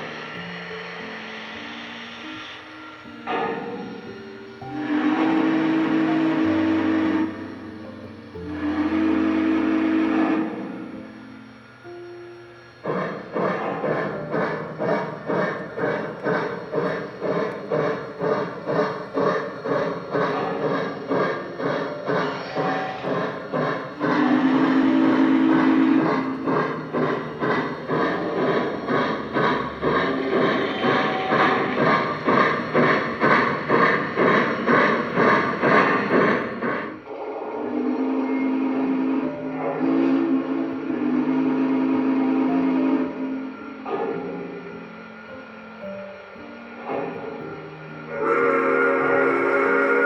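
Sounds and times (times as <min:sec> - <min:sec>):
model train steam chuffing: 0:00.0 - 0:50.0.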